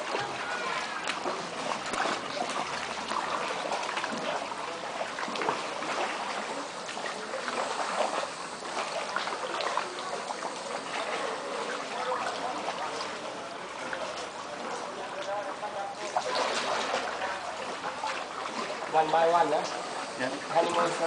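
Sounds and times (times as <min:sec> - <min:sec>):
paddle splashing water: 0:00.0 - 0:21.0.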